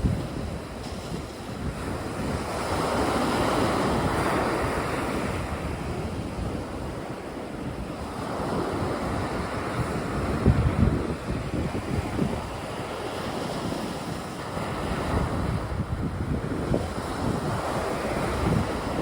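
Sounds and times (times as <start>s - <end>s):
sea waves washing onto beach: 0.0s - 19.0s
wind buffeting microphone: 0.0s - 19.0s.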